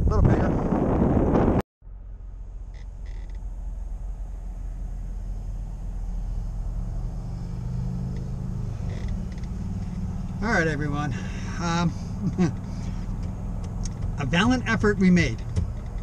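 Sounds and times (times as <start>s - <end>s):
vehicle engine idling: 1.8s - 16.0s.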